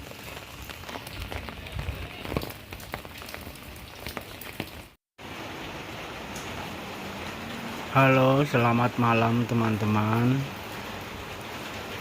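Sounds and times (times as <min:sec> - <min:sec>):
sharp raindrops striking nearby: 0:00.0 - 0:12.0
steady rain falling: 0:00.0 - 0:12.0.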